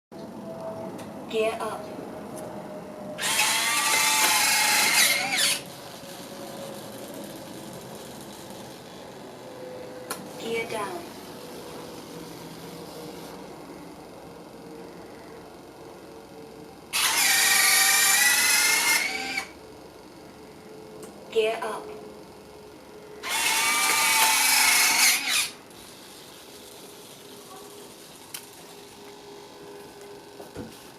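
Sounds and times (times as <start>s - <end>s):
electric landing gear motor whine: 2.6s - 21.0s, 22.1s - 30.9s.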